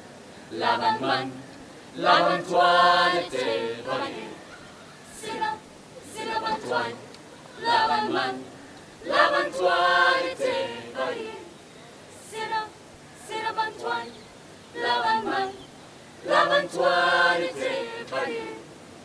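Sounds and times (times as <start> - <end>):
young women singing a cappella: 0.4 - 18.8.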